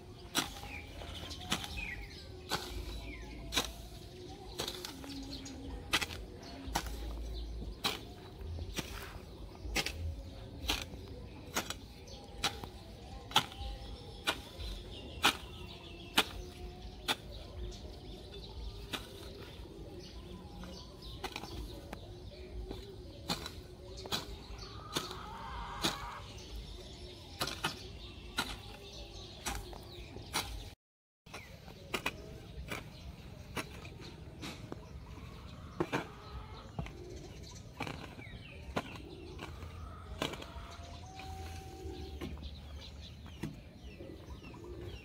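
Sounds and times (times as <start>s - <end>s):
garden hoe chopping soil: 0.0s - 45.0s.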